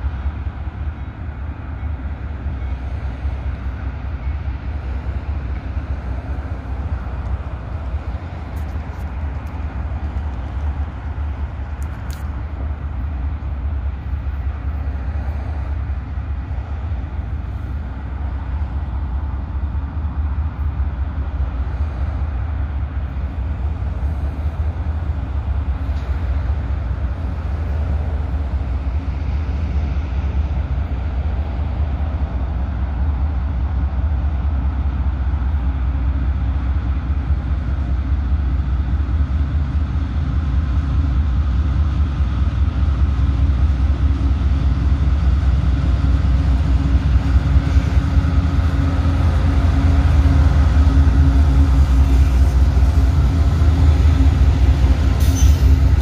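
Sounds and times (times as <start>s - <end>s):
diesel locomotives rumbling: 0.0s - 56.0s
engines humming: 0.0s - 56.0s.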